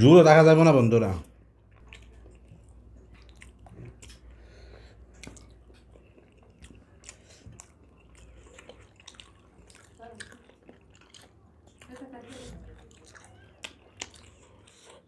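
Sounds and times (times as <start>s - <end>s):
people chewing: 1.2s - 15.0s.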